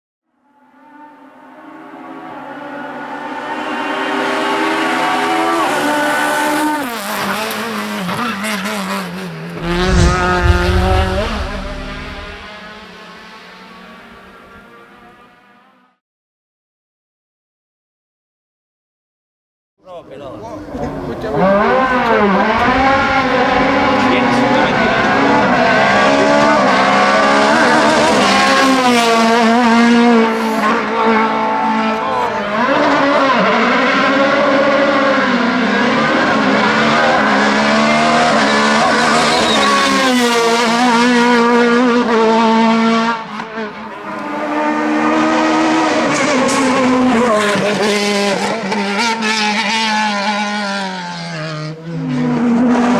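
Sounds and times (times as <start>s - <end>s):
racing car engine revving: 2.0s - 15.7s, 20.7s - 52.9s.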